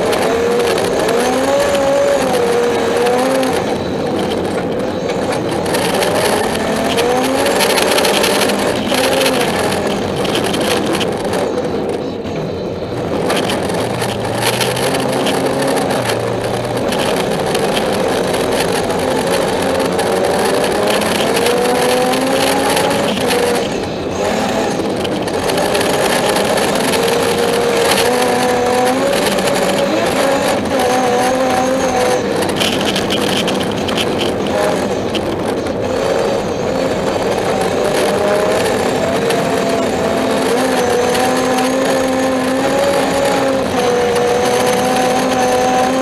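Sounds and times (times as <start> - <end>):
car engine revving through gears: 0.0 - 46.0.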